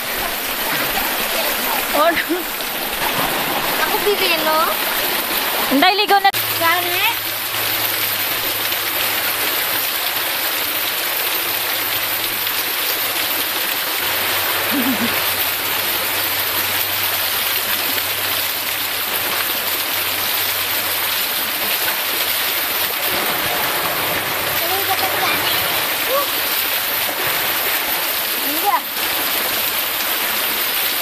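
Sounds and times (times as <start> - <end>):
waterfall splashing onto stone: 0.0 - 31.0.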